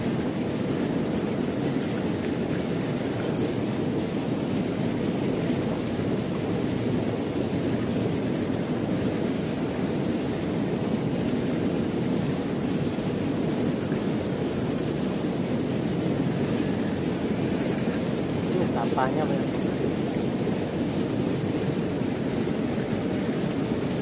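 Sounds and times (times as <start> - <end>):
river current rushing: 0.0 - 24.0.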